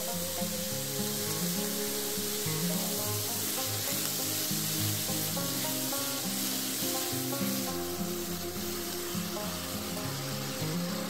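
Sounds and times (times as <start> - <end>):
background music: 0.0 - 11.0
onion sizzling in frying pan: 0.0 - 11.0.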